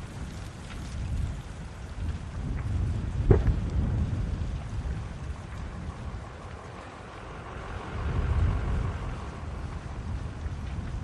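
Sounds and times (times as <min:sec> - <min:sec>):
wildfire rushing: 0:00.0 - 0:11.0
wind rumbling against microphone: 0:00.0 - 0:11.0.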